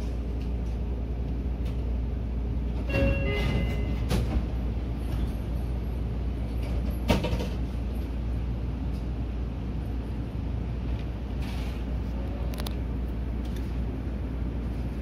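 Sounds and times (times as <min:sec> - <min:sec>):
train cab low hum: 0:00.0 - 0:15.0.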